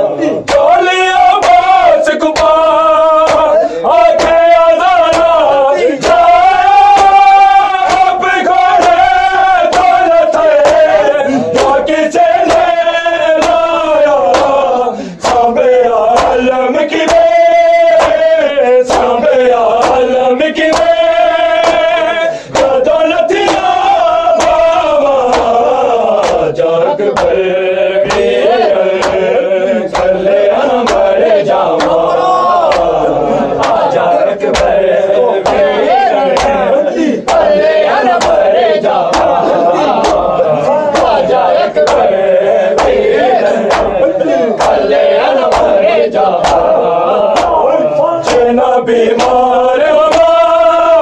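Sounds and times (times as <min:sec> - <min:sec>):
congregation singing along: 0:00.0 - 0:51.0
man chanting a lament: 0:00.0 - 0:51.0.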